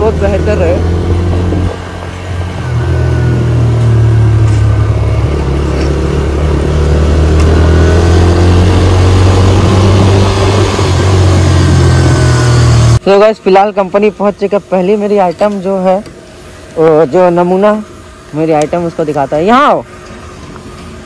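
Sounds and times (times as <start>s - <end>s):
vehicle engine and road rumble: 0.0s - 21.0s.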